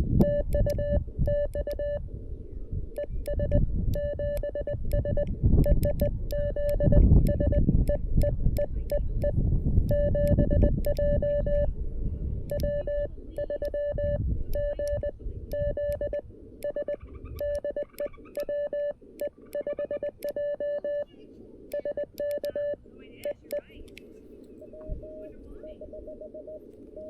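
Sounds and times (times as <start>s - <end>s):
low rumbling noise: 0.0s - 27.0s
morse code beeping tone: 0.1s - 2.0s, 3.0s - 11.7s, 12.5s - 21.1s, 21.7s - 23.7s, 24.6s - 27.0s.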